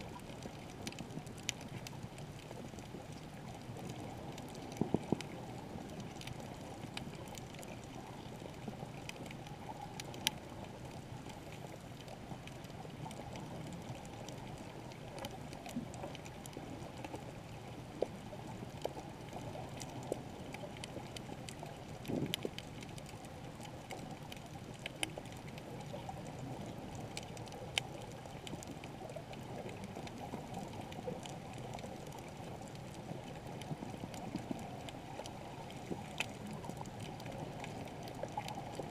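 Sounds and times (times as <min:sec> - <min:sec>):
muffled rush of water: 0:00.0 - 0:38.9
sharp underwater clicks: 0:00.1 - 0:38.9.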